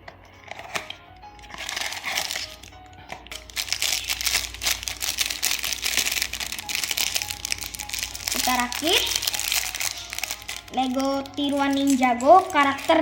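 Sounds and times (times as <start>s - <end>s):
background music: 0.0s - 13.0s
plastic packaging crinkling: 0.6s - 13.0s.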